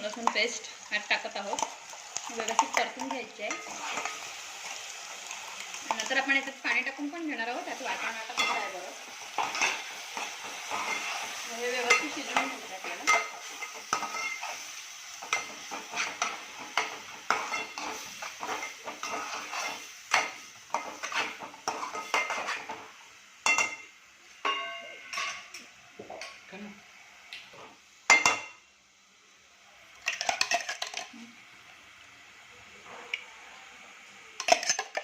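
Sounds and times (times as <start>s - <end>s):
spoon scraping a pan: 0.0s - 26.4s, 30.0s - 31.2s, 34.4s - 35.0s
paste sizzling in oil: 0.0s - 35.0s.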